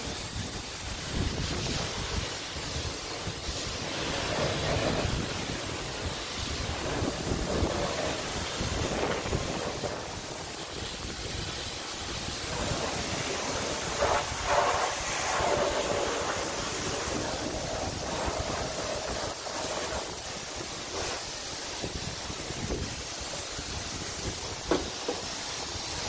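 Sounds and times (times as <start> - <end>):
high-pressure water spray: 0.0 - 26.0.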